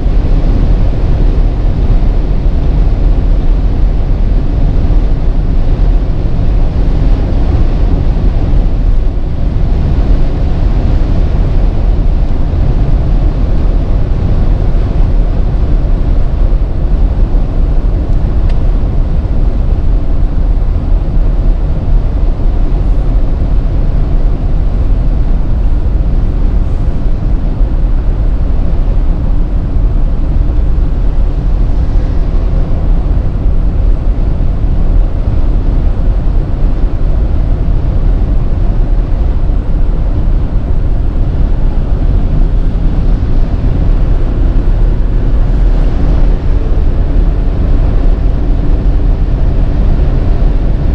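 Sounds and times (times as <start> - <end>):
road tyre and wind rumble: 0.0 - 50.9.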